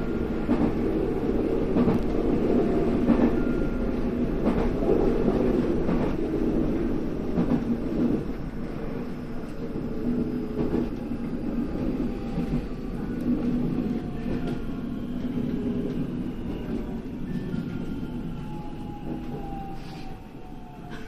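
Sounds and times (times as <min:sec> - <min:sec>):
faint train whine: 0:00.0 - 0:21.0
train wheels rumbling on rail: 0:00.0 - 0:21.0.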